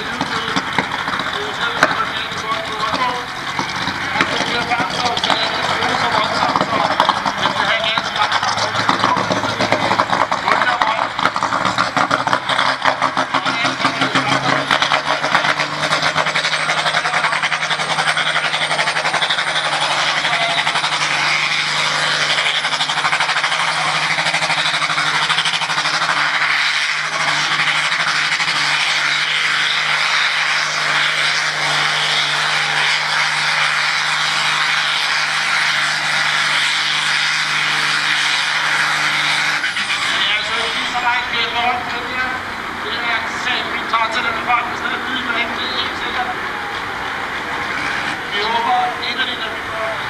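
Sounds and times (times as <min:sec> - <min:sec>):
tractor engine running under load: 0:00.0 - 0:50.0.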